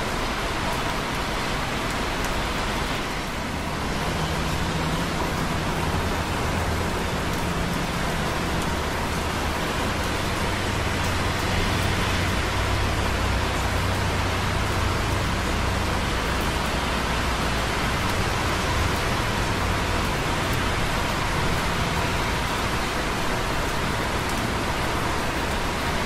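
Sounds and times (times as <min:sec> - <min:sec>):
distant traffic on wet roads: 0:00.0 - 0:26.0
rain dripping on concrete: 0:00.0 - 0:26.0.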